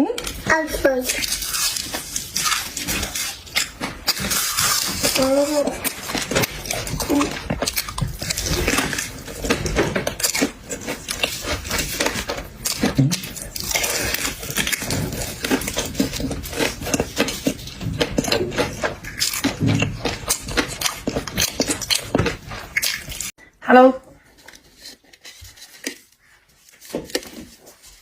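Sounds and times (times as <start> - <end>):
shellfish cracking and chewing: 0.2 - 23.4, 24.2 - 28.0.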